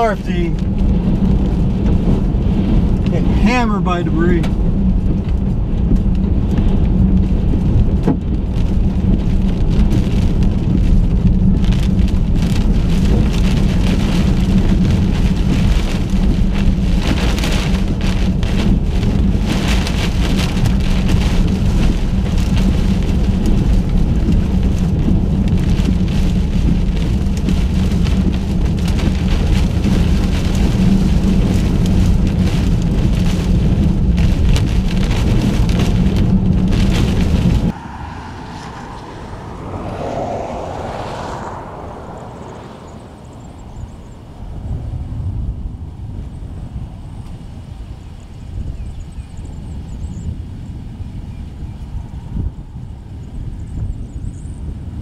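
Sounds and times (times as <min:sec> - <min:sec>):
rain and debris pelting a car: 0:00.0 - 0:55.0
steady low rumble: 0:00.0 - 0:55.0.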